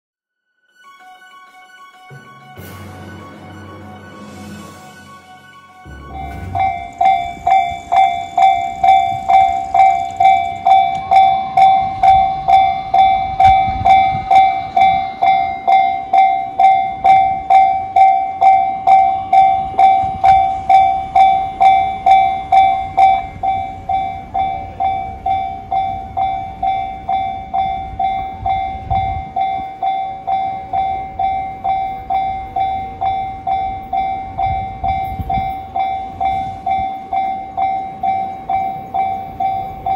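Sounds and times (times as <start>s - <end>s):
level-crossing warning bell ringing: 0.8s - 39.9s.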